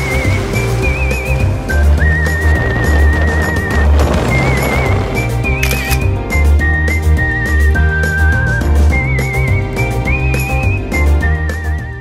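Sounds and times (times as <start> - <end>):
bass line: 0.0 - 10.1
whistled melody with vibrato: 0.0 - 12.0.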